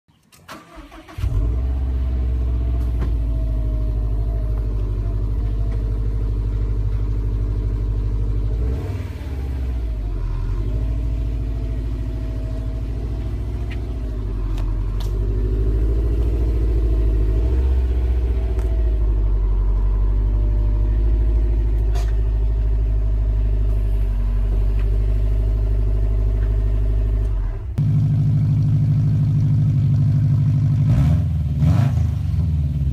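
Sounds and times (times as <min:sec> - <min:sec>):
car engine idling: 0:00.5 - 0:31.5.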